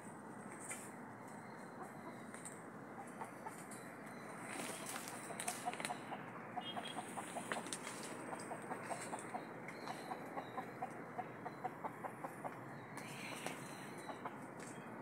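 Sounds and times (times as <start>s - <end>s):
birds calling: 0.6s - 15.0s.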